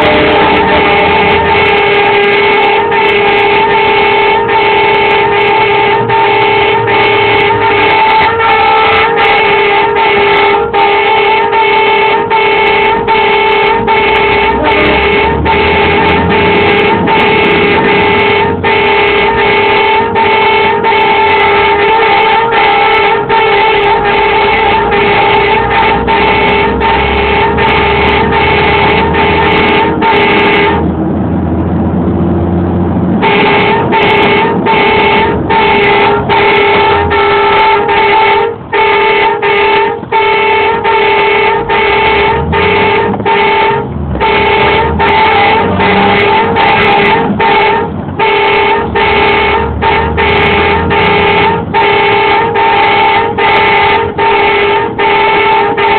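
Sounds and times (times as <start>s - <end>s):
truck warning horn pulsing: 0.0s - 31.0s, 32.4s - 55.9s
truck engine running: 0.0s - 55.9s.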